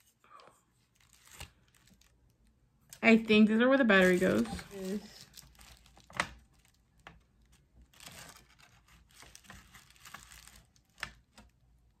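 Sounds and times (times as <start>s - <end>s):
paper and plastic rustling: 0.0s - 11.6s.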